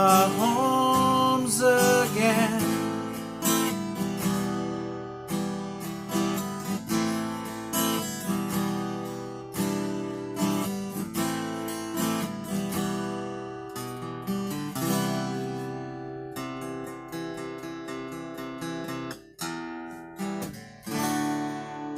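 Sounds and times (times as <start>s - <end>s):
acoustic guitar strummed chords: 0.0s - 21.9s.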